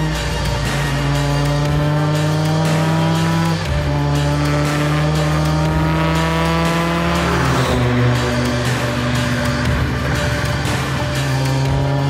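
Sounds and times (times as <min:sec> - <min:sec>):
engine accelerating hard: 0:00.0 - 0:12.0
gear upshift: 0:00.0 - 0:12.0.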